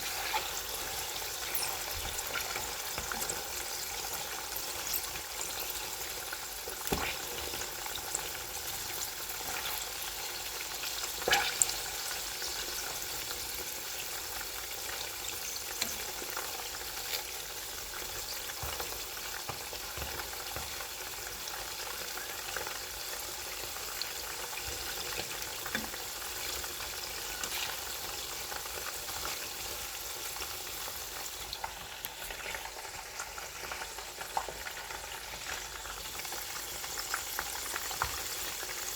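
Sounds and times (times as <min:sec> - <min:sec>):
food deep frying in oil: 0:00.0 - 0:38.9.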